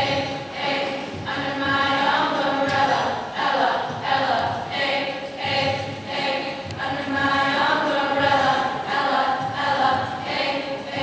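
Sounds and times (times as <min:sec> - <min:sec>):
choir of young voices singing: 0:00.0 - 0:11.0.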